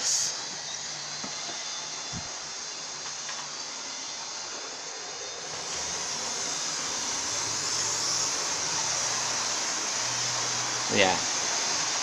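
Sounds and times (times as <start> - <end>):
model trains whirring on track: 0.0 - 12.0.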